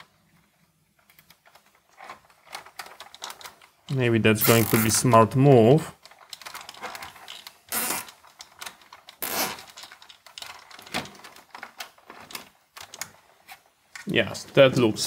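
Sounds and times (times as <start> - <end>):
plastic handling rustle: 0.0 - 15.0.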